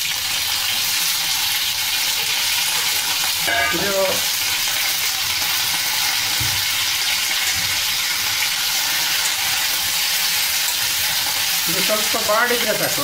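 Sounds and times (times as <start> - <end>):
leaves sizzling in hot fat: 0.0 - 13.0.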